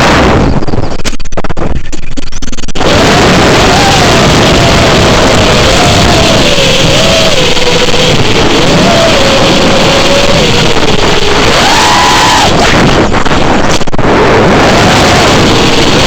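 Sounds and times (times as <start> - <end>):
drone motors whining: 0.0 - 16.0
propeller and wind rush: 0.0 - 16.0.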